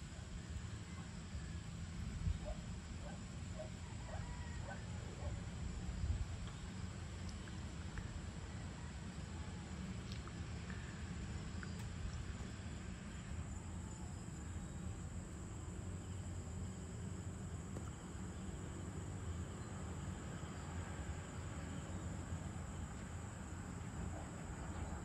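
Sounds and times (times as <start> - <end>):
crickets and insects chirring: 0.0 - 25.0
low steady rumble: 0.0 - 25.0.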